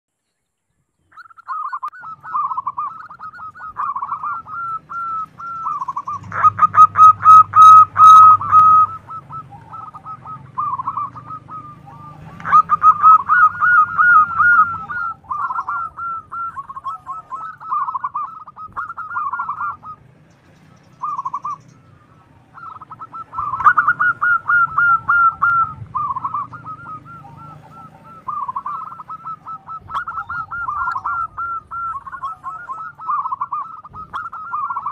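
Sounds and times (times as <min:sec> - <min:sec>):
dove cooing: 0:01.1 - 0:34.9.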